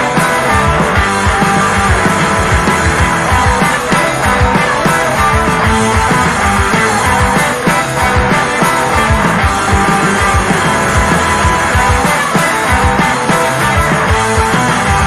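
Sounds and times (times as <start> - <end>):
rock music with drum beat: 0.0 - 15.0.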